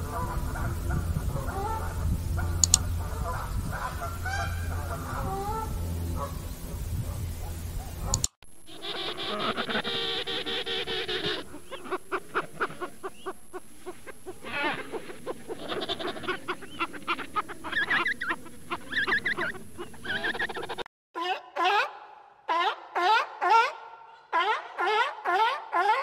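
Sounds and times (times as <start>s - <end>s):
penguins braying: 0.0s - 6.5s, 8.7s - 26.0s.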